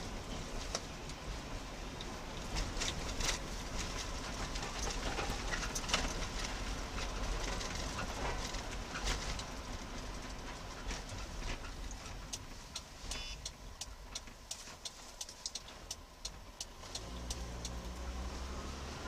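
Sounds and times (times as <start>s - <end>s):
sharp clicks and clacks: 2.0s - 18.0s.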